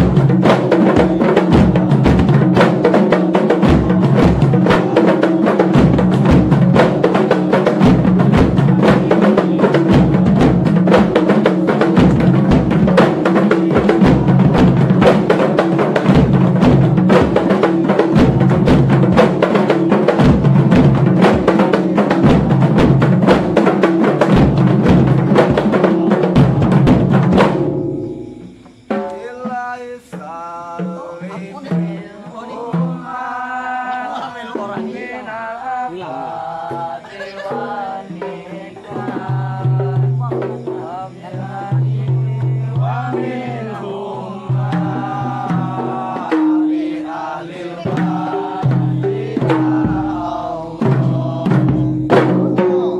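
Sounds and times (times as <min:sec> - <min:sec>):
man chanting: 0:00.0 - 0:22.6, 0:28.9 - 0:52.9
frame drums playing fast rhythm: 0:00.0 - 0:33.3, 0:36.6 - 0:52.9.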